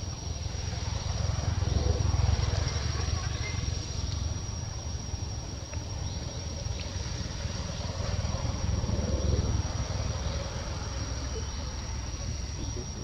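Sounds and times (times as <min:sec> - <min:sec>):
high-pitched insect drone: 0:00.0 - 0:13.0
steady low rumble: 0:00.0 - 0:13.0.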